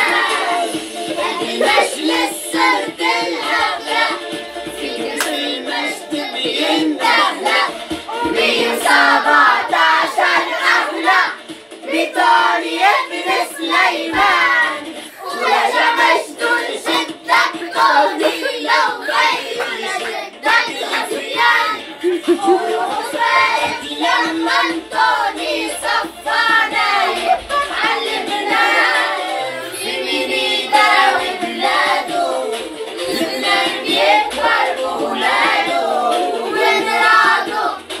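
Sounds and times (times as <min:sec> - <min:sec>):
boys singing together: 0:00.0 - 0:38.0.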